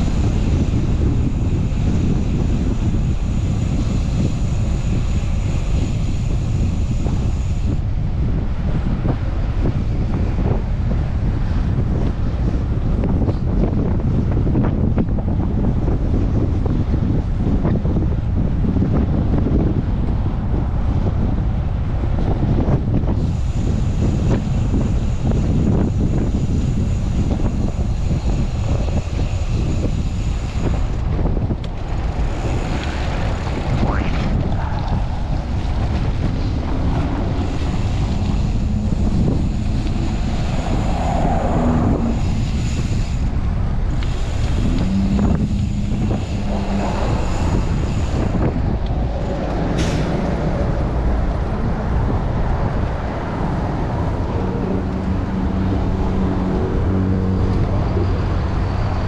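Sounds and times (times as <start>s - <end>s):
city traffic: 0.0s - 59.0s
wind buffeting microphone: 0.0s - 59.0s.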